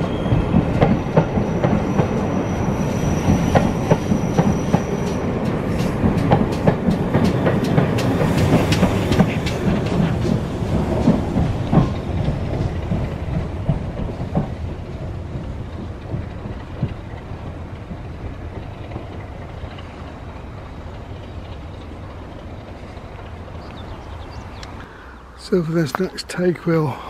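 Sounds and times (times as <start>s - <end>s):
wheels clicking over rails: 0.0s - 24.9s
train rumbling: 0.0s - 27.0s.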